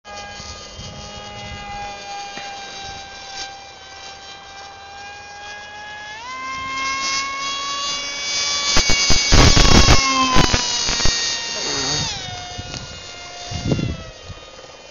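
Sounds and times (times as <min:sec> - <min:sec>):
electric motor high whine: 0:00.1 - 0:14.9.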